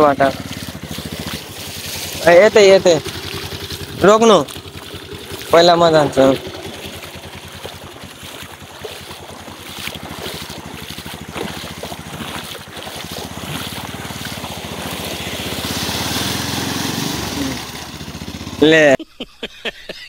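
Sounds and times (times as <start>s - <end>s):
water splashing: 0.0s - 18.8s
motorcycle engine running: 0.0s - 19.0s.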